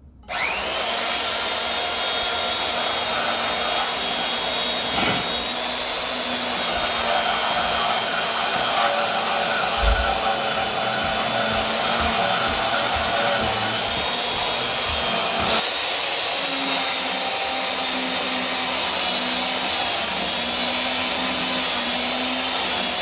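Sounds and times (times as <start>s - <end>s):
band saw motor whine: 0.2s - 23.0s
saw blade cutting metal tube: 0.2s - 23.0s.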